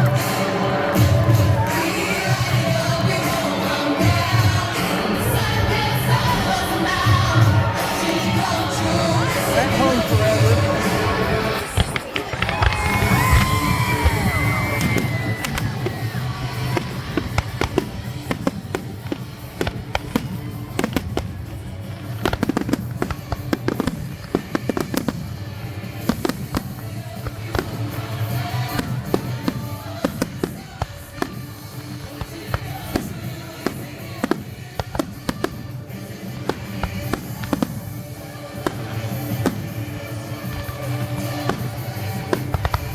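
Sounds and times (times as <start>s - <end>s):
background music: 0.0s - 42.9s
fireworks bangs and crackles: 0.0s - 42.9s.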